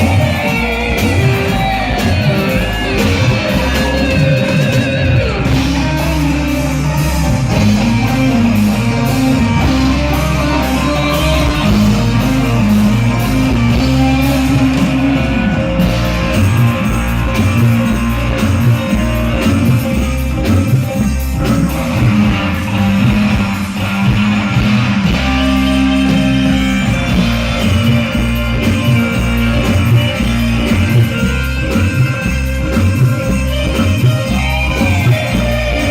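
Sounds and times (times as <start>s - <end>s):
bass line: 0.0s - 35.9s
drum beat: 0.0s - 35.9s
guitar: 0.0s - 35.9s.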